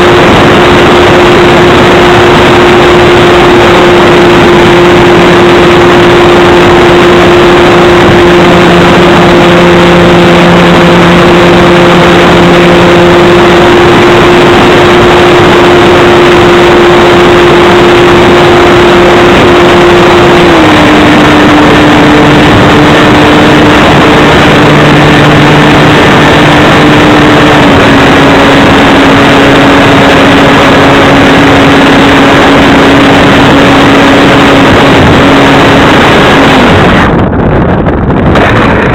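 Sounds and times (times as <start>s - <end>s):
electric motor whine: 0.0s - 37.2s
wind rush: 0.0s - 38.9s.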